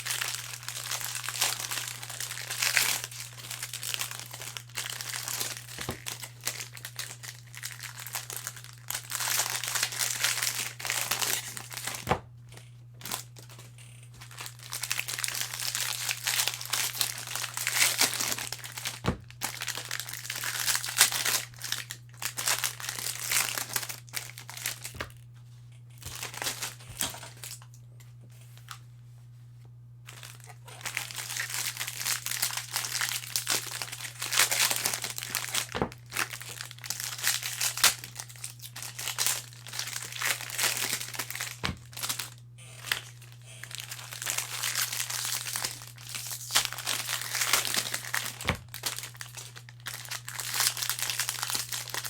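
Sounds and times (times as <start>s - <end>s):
foil wrappers crinkling: 0.0s - 12.2s, 13.0s - 25.3s, 26.0s - 27.8s, 30.1s - 52.0s.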